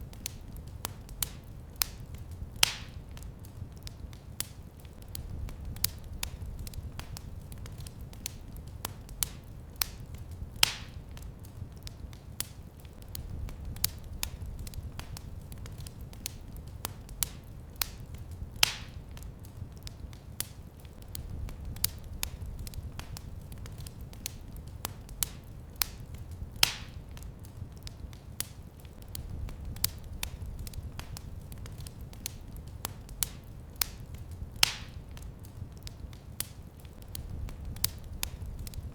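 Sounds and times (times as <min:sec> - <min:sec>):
fire pops: 0:00.0 - 0:38.9
wood fire crackling: 0:00.0 - 0:38.9.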